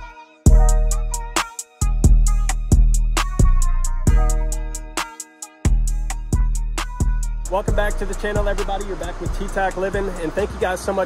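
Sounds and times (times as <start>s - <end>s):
music with deep bass and drums: 0.0s - 11.0s.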